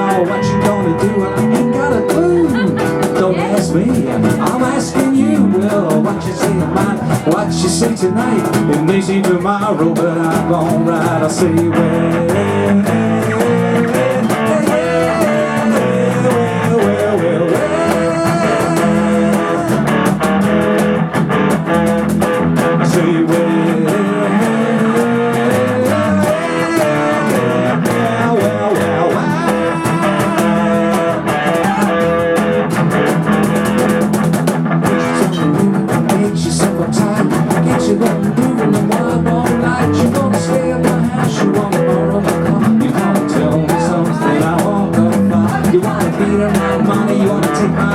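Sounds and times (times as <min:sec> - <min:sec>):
electric guitar: 0:00.0 - 0:47.9
live rock band playing: 0:00.0 - 0:47.9.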